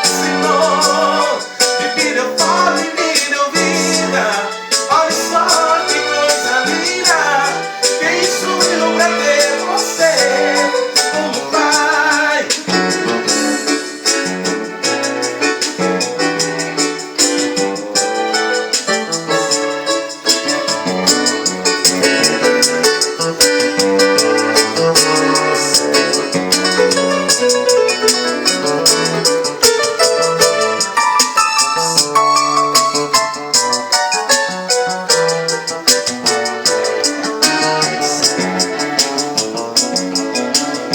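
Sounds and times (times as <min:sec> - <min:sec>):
keyboard melody: 0:00.0 - 0:40.9
steady drum beat: 0:00.0 - 0:40.9.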